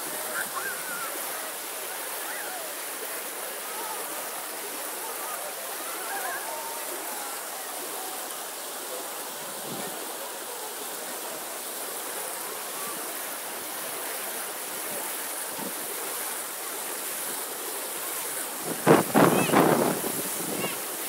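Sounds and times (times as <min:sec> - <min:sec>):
fountain jets splashing on stone: 0:00.0 - 0:21.0.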